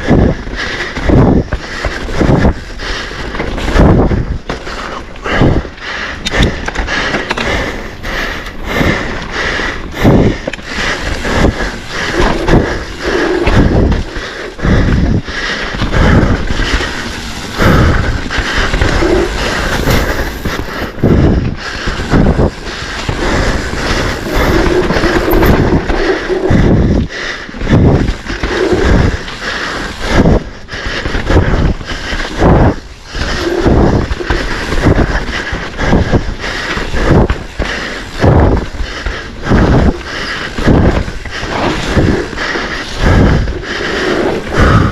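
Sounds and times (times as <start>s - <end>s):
wind on microphone: 0.0s - 2.8s, 3.5s - 4.5s, 9.9s - 44.9s
bike knocking and rattling: 0.0s - 44.9s
bike tyres on dirt: 0.0s - 44.9s.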